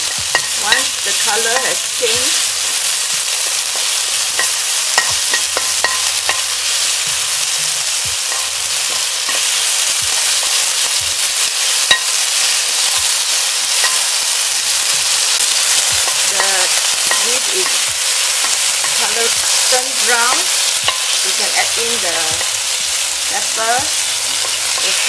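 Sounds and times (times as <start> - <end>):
beef sizzling in hot oil: 0.0 - 25.0.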